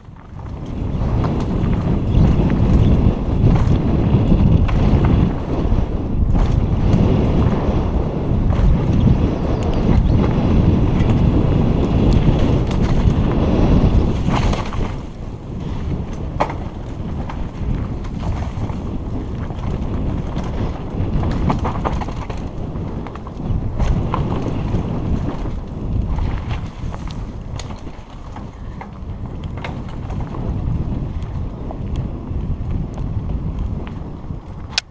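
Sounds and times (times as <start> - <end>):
bike clicks and knocks: 0.0 - 34.9
bike rattling: 0.0 - 34.9
bike tyre noise: 0.0 - 34.9
wind rushing over microphone: 0.0 - 34.9.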